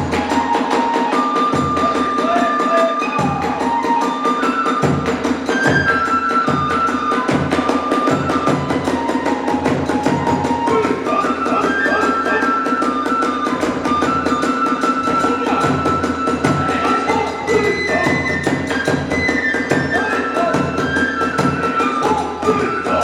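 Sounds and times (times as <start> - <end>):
bamboo flute melody: 0.0 - 23.0.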